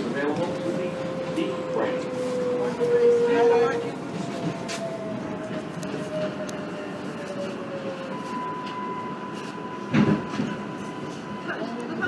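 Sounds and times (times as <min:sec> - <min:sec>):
subway train rumble and motor whine: 0:00.0 - 0:12.0.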